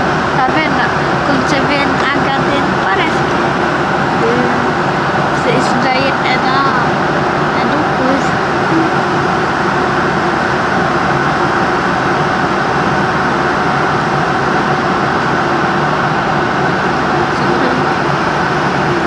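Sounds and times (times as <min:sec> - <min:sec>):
faint steady hums: 0:00.0 - 0:19.0.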